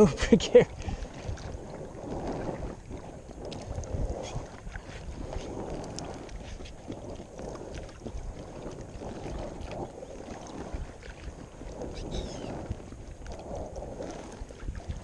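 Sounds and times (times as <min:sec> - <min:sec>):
water splashing around kayak: 0:00.0 - 0:15.0
wind rumbling on microphone: 0:00.0 - 0:15.0.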